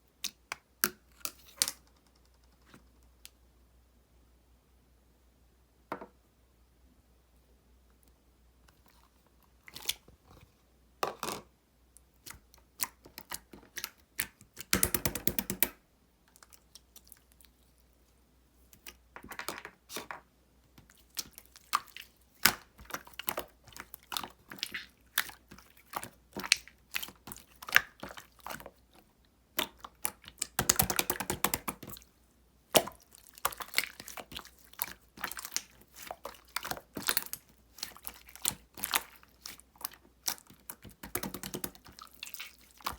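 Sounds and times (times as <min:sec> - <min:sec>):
slime squishing with wet clicks: 0:00.1 - 0:03.4, 0:07.9 - 0:10.4, 0:11.9 - 0:19.1, 0:19.9 - 0:42.9.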